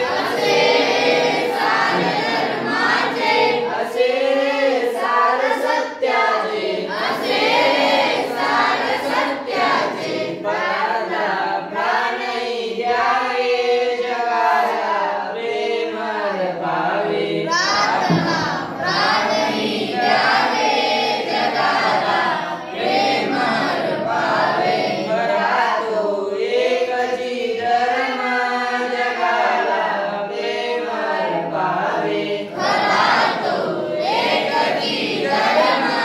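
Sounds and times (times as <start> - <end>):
children singing a prayer: 0.0 - 36.0.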